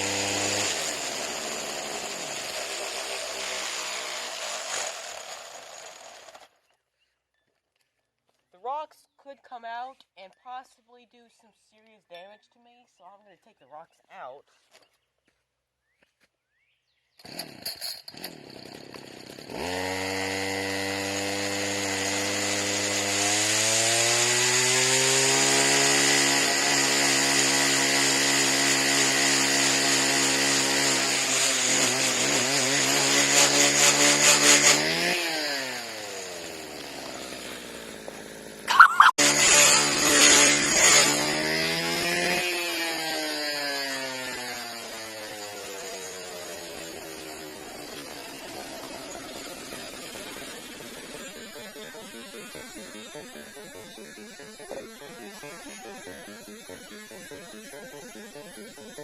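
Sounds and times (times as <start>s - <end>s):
two-stroke engine revving: 0.0s - 6.5s, 17.2s - 59.0s.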